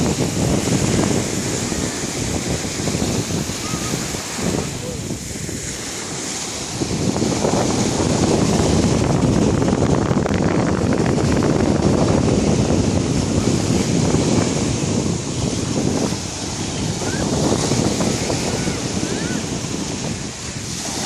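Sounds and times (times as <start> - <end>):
sea waves washing onto beach: 0.0 - 21.0
wind on microphone: 0.0 - 21.0.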